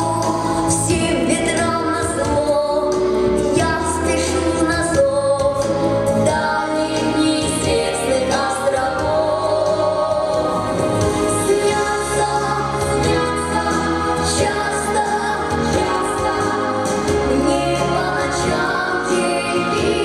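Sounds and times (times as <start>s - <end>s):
instrumental accompaniment: 0.0s - 20.0s.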